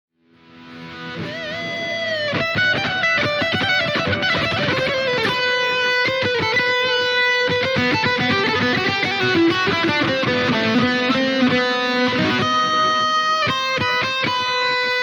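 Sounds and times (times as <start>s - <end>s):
distorted electric guitar lead: 0.3s - 15.0s.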